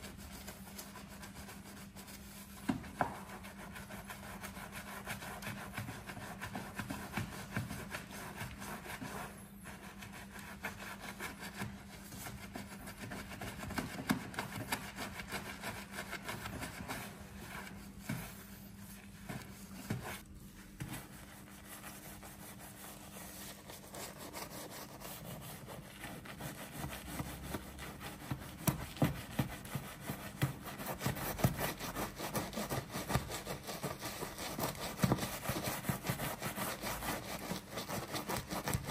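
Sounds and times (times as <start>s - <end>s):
brush scrubbing soap foam on car: 0.0s - 38.9s.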